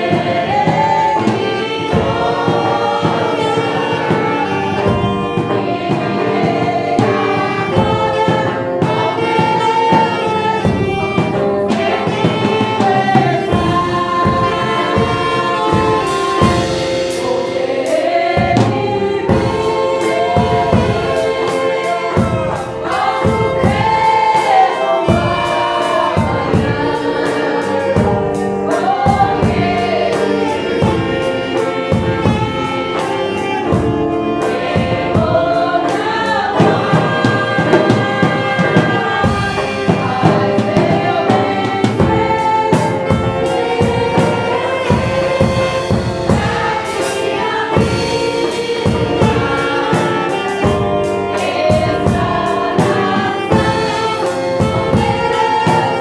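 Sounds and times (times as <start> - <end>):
gospel song with voices and band: 0.0 - 56.0.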